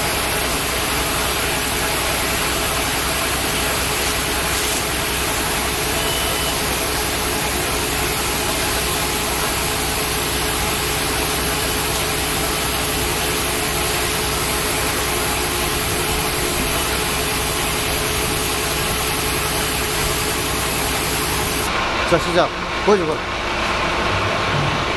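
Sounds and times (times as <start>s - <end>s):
hydraulic pump humming and whining: 0.0s - 24.9s.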